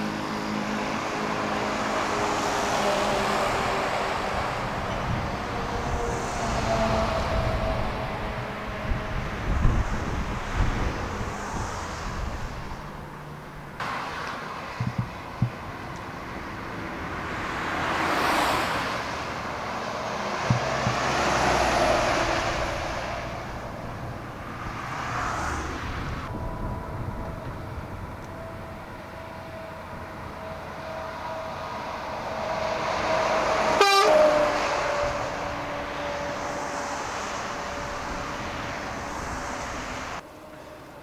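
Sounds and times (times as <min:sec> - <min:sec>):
heavy road traffic: 0:00.0 - 0:41.0.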